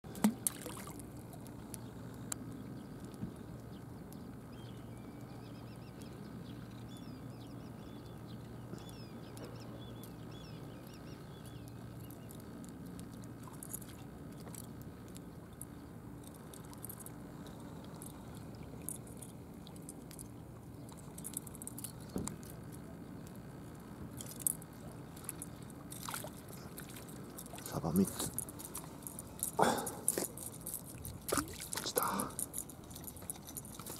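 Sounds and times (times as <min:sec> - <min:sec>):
light crisp ticking: 0:00.1 - 0:33.9
steady low hum: 0:00.1 - 0:33.9
small birds twittering: 0:01.7 - 0:23.2, 0:26.5 - 0:30.5, 0:31.8 - 0:33.7.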